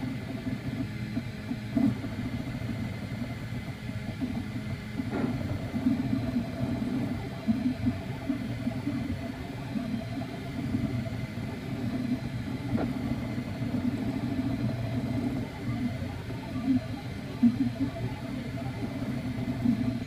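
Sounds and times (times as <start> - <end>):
thin steady whine: 0.0 - 20.0.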